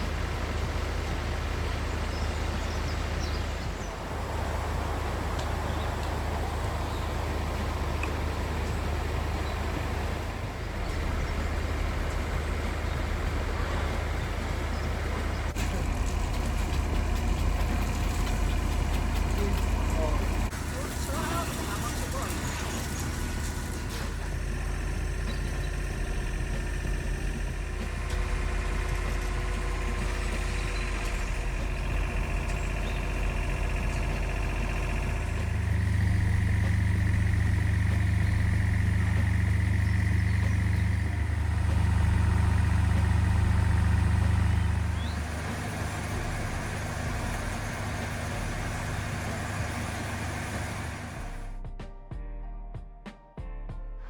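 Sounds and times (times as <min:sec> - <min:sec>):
large engine running: 0:00.0 - 0:51.8.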